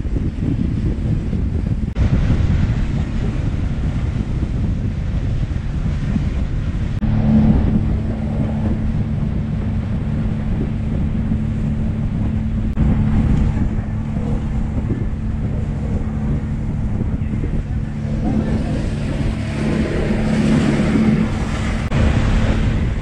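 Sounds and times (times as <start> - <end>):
outboard engine droning: 0.0 - 23.0
water rushing past hull: 0.0 - 23.0
wind buffeting microphone: 0.0 - 23.0.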